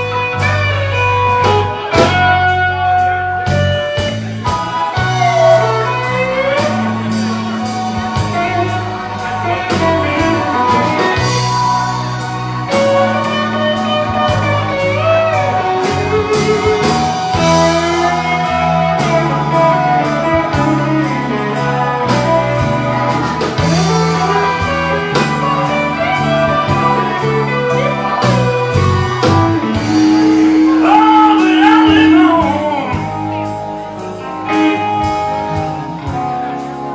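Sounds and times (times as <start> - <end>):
bass guitar: 0.0 - 36.9
drums: 0.0 - 36.9
electric guitar lead: 0.0 - 36.9.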